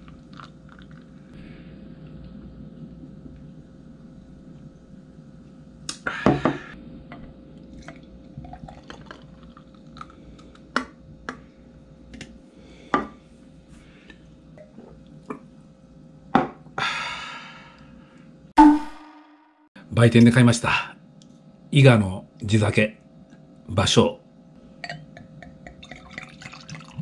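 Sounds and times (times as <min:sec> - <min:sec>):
faint steady hum: 0:00.0 - 0:19.0, 0:19.8 - 0:27.0.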